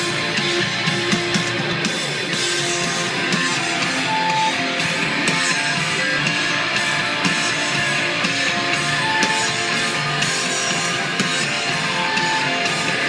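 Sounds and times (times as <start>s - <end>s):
electric guitar strummed and picked: 0.0s - 13.0s.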